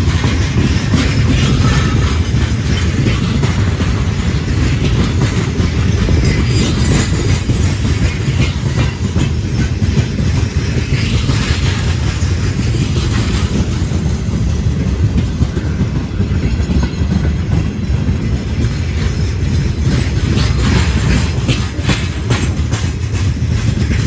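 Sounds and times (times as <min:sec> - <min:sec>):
steel wheels rumbling on rails: 0:00.0 - 0:24.0
wheels and couplings clattering: 0:00.0 - 0:24.0.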